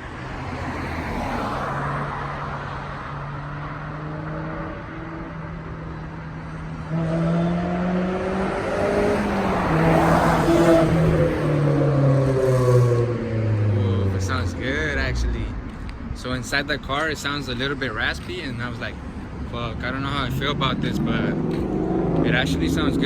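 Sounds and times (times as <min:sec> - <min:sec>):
sports car driving past: 0:00.2 - 0:16.1, 0:19.6 - 0:23.0.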